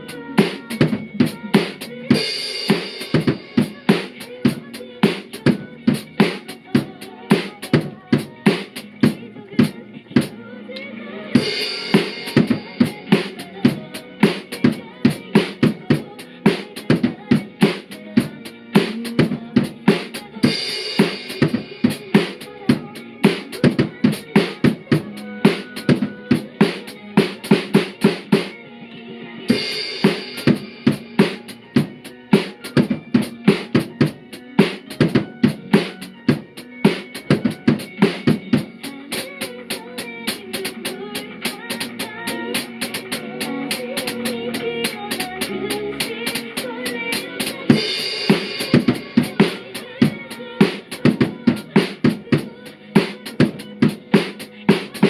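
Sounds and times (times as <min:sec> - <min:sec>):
acoustic drum kit playing: 0:00.0 - 0:10.4, 0:11.4 - 0:28.6, 0:29.4 - 0:55.0
pop backing track: 0:00.0 - 0:55.0.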